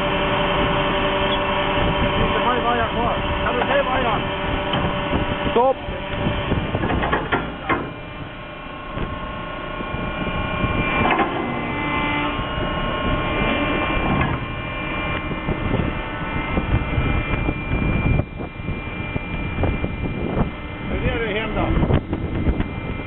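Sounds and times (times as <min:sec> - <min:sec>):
motor running with a whine: 0:00.0 - 0:23.0.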